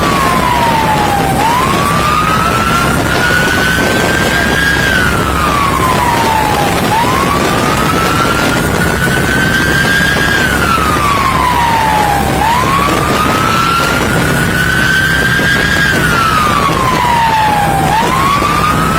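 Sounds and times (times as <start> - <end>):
loud steady noise: 0.0 - 18.9
police siren wailing: 0.0 - 18.9.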